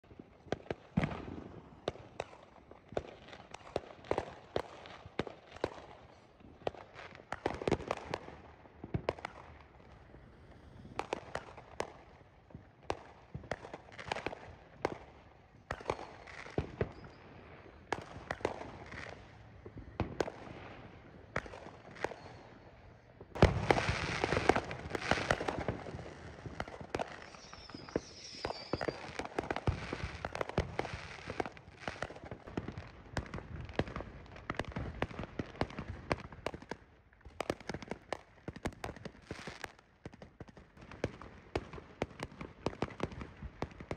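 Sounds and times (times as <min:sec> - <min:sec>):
distant fireworks bangs and pops: 0:00.1 - 0:43.9.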